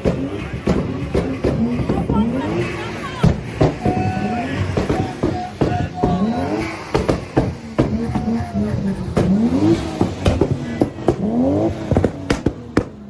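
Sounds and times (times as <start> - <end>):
car engine revving: 0.0 - 13.0
exhaust pops and bangs: 0.0 - 13.0.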